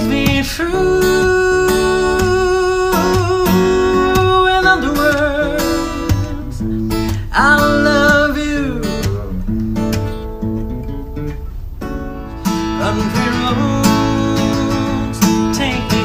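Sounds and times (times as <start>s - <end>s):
man singing: 0.0s - 10.1s, 12.5s - 16.0s
acoustic guitar: 0.0s - 16.0s.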